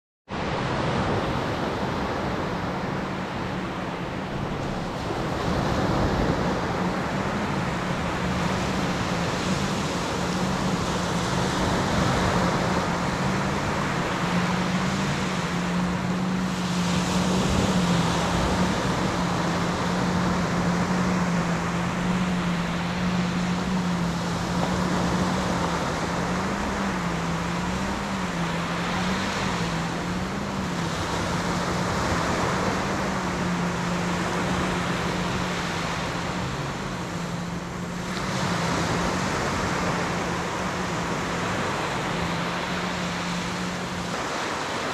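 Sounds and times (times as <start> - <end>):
steady low hum: 0.4 - 44.9
surf washing onto sand: 0.7 - 44.9.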